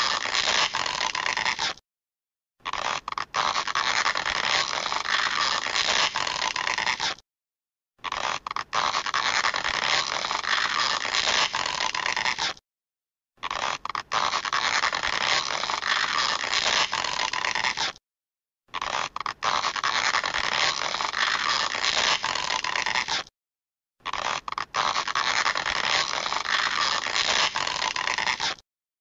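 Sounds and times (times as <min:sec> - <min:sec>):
stretching sound effect: 0:00.0 - 0:01.8, 0:02.6 - 0:07.2, 0:08.0 - 0:12.6, 0:13.4 - 0:18.0, 0:18.8 - 0:23.3, 0:24.1 - 0:28.6.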